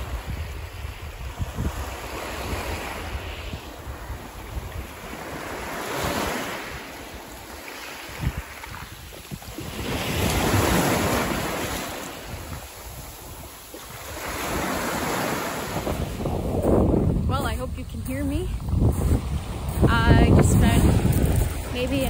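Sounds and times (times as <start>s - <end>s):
waves washing on pebble beach: 0.0s - 17.7s, 18.3s - 22.0s
wind rumble on microphone: 0.0s - 22.0s.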